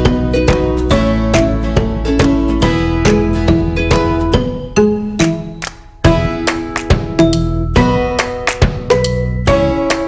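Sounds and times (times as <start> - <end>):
plucked-string tune: 0.0 - 10.0.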